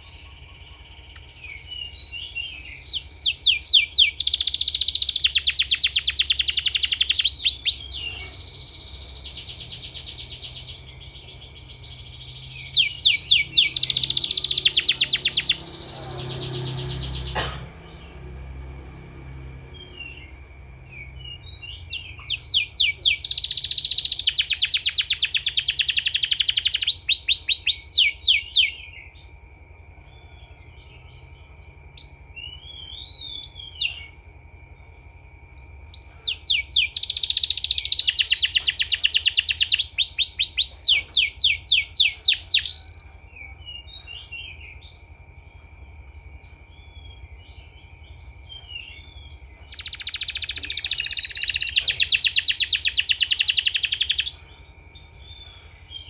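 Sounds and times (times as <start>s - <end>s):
canary trilling: 0.0s - 34.3s, 35.6s - 45.5s, 46.6s - 56.0s
soft chirps: 0.0s - 56.0s.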